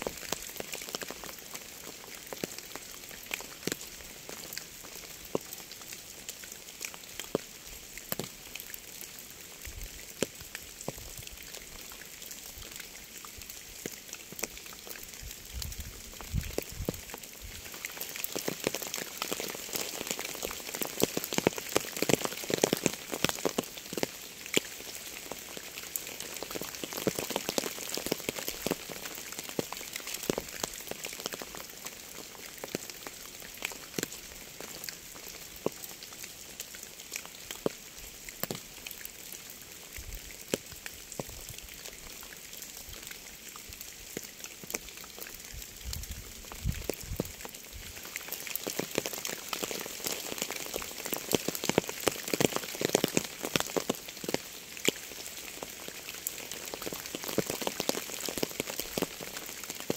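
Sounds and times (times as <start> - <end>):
rain hissing and ticking: 0.0 - 59.9.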